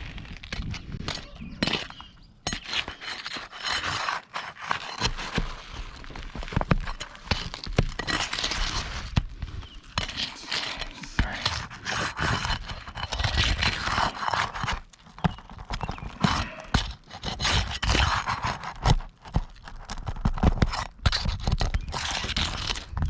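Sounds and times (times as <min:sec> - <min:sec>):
roof shingles scraping and cracking: 0:00.0 - 0:23.0.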